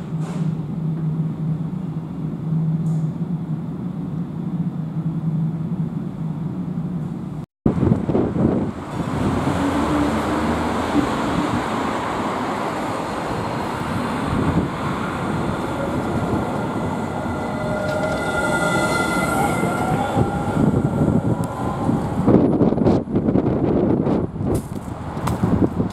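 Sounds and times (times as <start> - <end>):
tram drive whine rising: 0.0 - 24.5
tram wheels on rail: 0.0 - 25.9.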